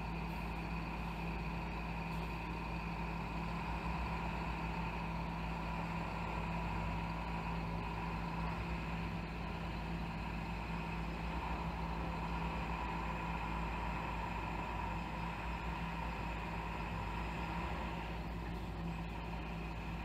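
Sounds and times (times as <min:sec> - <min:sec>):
muffled truck engine running: 0:00.0 - 0:20.0.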